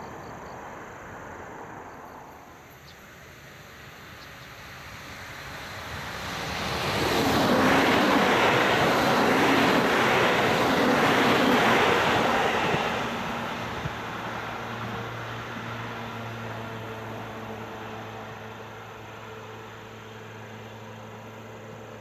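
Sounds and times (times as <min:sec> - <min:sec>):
train wheels rushing on rails: 0:01.6 - 0:22.0.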